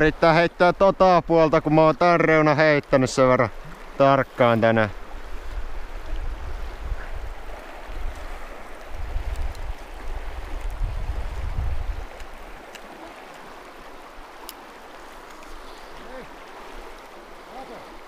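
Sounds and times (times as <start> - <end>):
river current: 0.0 - 18.0.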